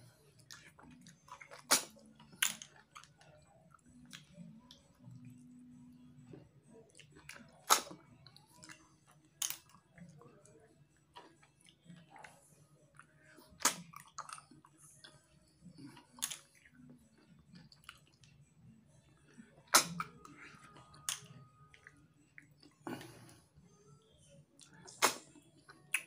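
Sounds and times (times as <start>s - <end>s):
smacking and chewing: 0.2s - 23.4s, 24.6s - 26.0s.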